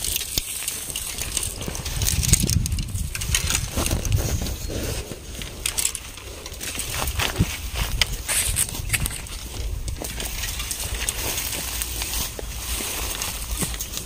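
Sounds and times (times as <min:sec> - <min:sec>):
footsteps in dry leaves: 0:00.0 - 0:14.0.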